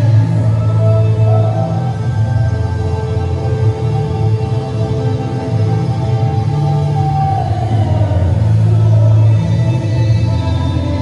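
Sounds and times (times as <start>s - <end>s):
deep bass drone music: 0.0s - 11.0s.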